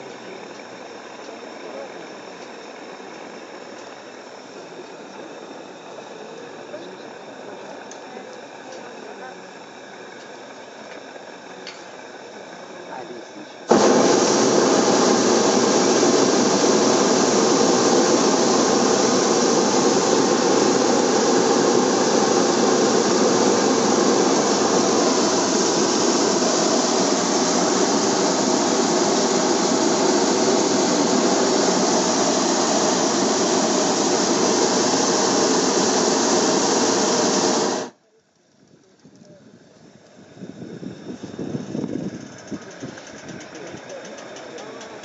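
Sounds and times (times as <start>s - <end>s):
propane burner blasting: 0.0s - 38.0s.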